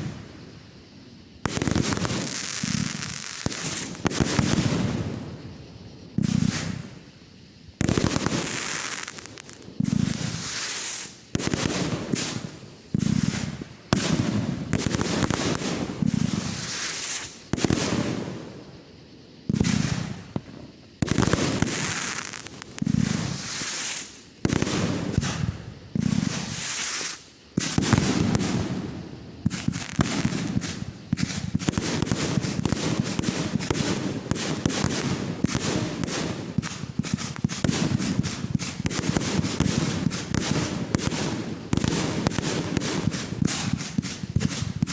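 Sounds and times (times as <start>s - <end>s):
rapid crackling fireworks: 0.0s - 18.9s, 19.5s - 44.9s
fireworks bangs: 1.4s - 7.0s, 7.8s - 18.6s, 19.5s - 44.9s.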